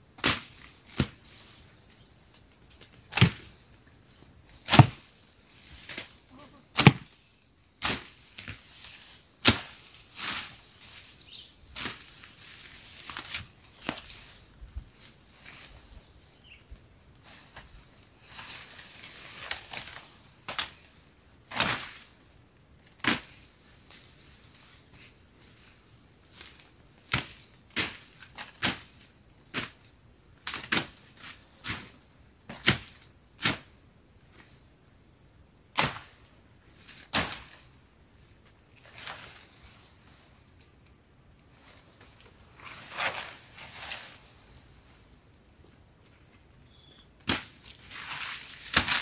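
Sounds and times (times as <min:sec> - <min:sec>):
high insect drone: 0:00.0 - 0:49.0
lower insect tone: 0:00.0 - 0:49.0.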